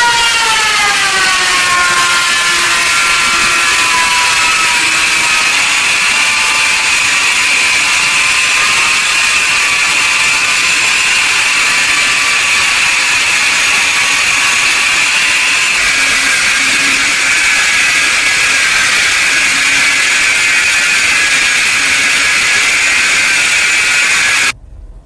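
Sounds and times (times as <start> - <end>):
power tool running: 0.0 - 24.6.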